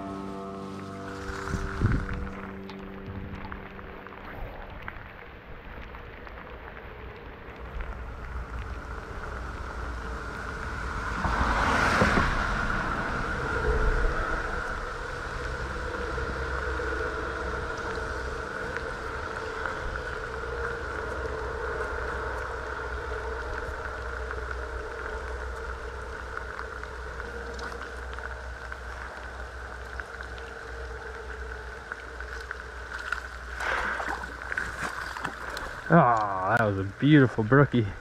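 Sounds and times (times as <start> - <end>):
noisy rustle: 0.0 - 36.4
outdoor background hum: 0.0 - 38.0.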